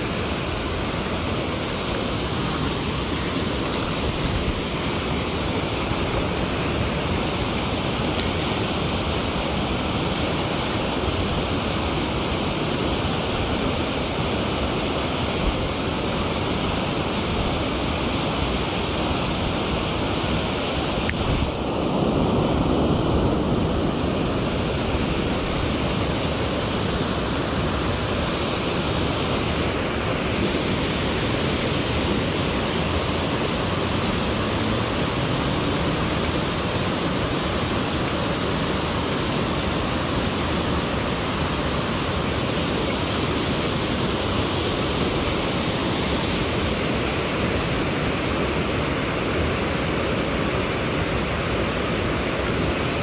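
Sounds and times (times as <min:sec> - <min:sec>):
river water pouring over weir: 0:00.0 - 0:53.0.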